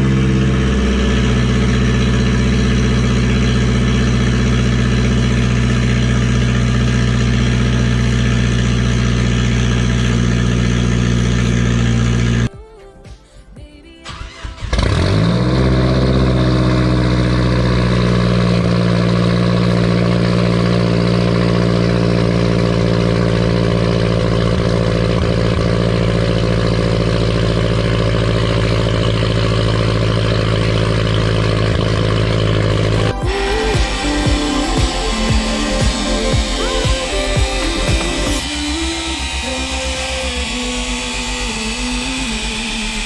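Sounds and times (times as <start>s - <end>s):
car engine cold start and idling: 0.0s - 43.0s.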